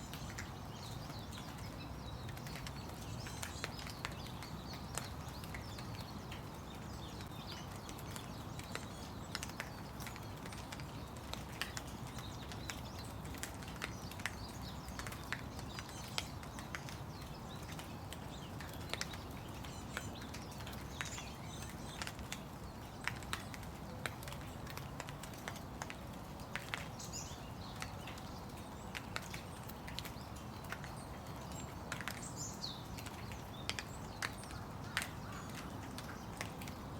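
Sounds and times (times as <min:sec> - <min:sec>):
raindrops dripping nearby: 0:00.0 - 0:36.9
steady rain: 0:00.0 - 0:36.9.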